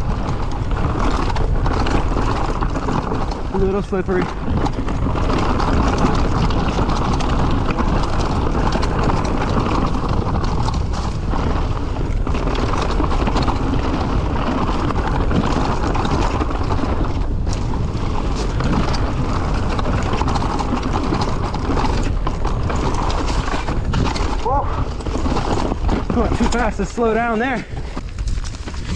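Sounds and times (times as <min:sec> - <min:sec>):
bike knocking and rattling: 0:00.0 - 0:28.9
bike tyres rumbling over rock: 0:00.0 - 0:28.9
wind noise on microphone: 0:00.0 - 0:28.9.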